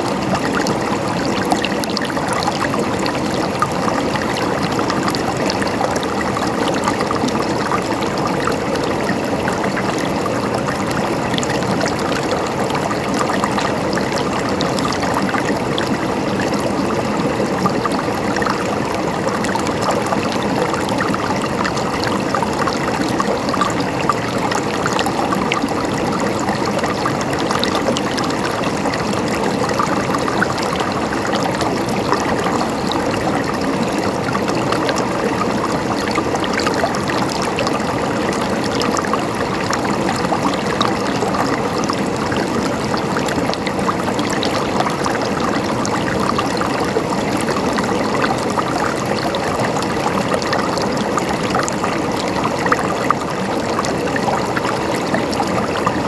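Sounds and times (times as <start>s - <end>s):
stream gurgling and trickling: 0.0s - 56.0s.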